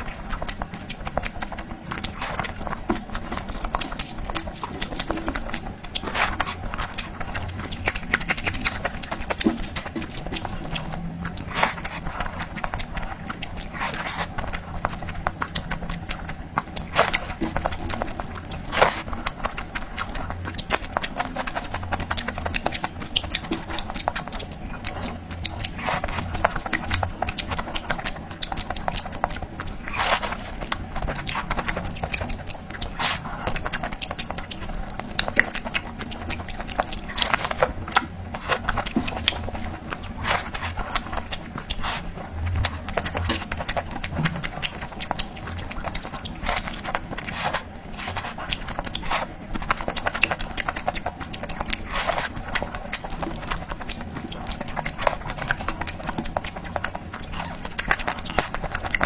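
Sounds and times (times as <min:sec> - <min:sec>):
chewing and crunching: 0:00.0 - 0:59.0
mouth clicks and smacks: 0:00.0 - 0:59.0.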